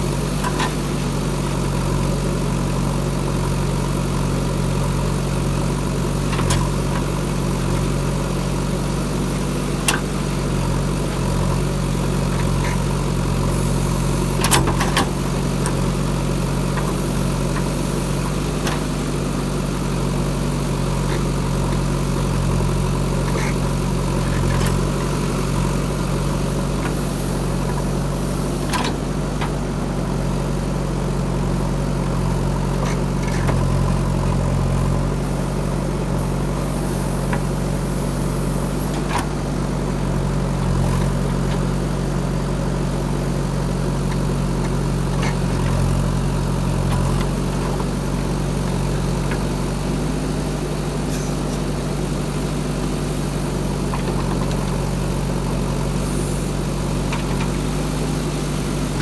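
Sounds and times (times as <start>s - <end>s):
diesel engine idling low: 0.0s - 59.0s.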